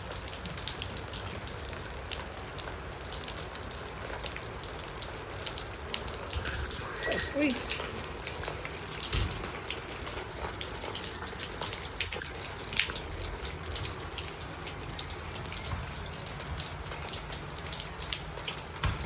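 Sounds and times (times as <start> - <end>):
hail striking hard surfaces: 1.1 - 19.0.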